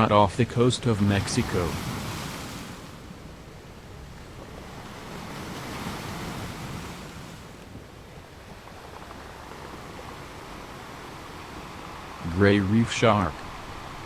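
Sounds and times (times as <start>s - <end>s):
rushing sea water: 0.0s - 14.0s.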